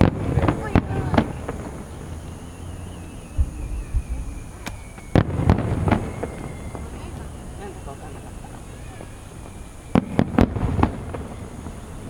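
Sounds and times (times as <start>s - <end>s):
fireworks booming and banging: 0.0s - 12.0s
high whistle sliding down: 1.8s - 12.0s.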